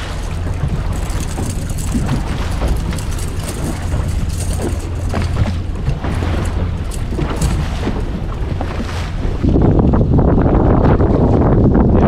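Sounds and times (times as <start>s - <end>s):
boat motor running: 0.0s - 12.0s
water noise: 0.0s - 12.0s
wind buffeting microphone: 0.0s - 12.0s.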